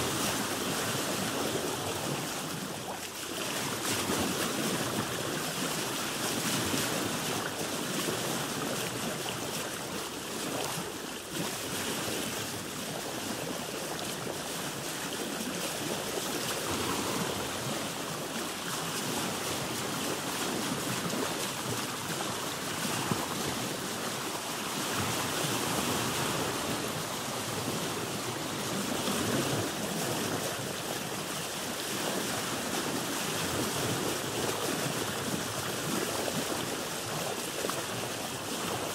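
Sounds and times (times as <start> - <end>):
water splashing against boat hull: 0.0 - 38.9.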